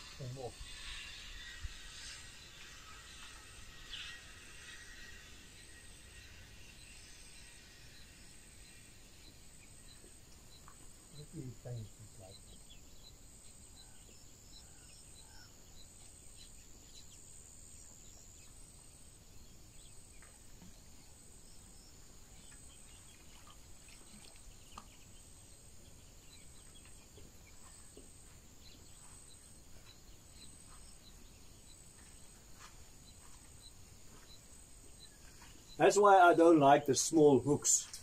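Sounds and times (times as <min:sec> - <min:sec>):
small ticks and chirps: 0:00.0 - 0:35.9
insects trilling: 0:00.0 - 0:38.0
low background noise: 0:00.0 - 0:38.0.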